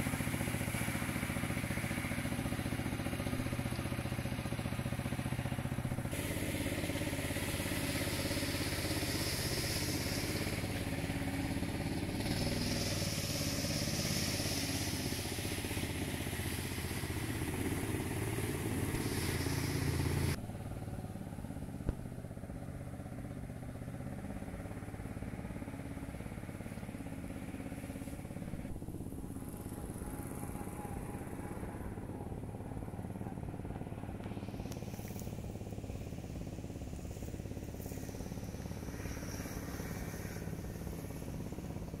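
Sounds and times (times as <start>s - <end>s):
mud pump engine humming: 0.0s - 42.0s.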